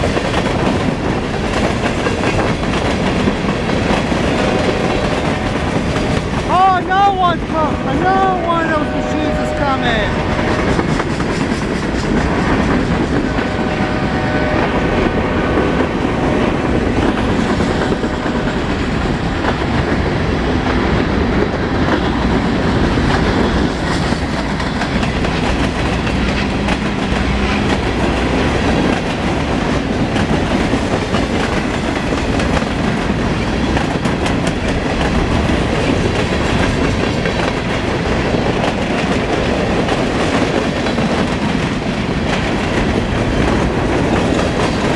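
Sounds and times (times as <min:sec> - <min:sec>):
wheels clacking over rail joints: 0:00.0 - 0:06.6, 0:10.4 - 0:44.9.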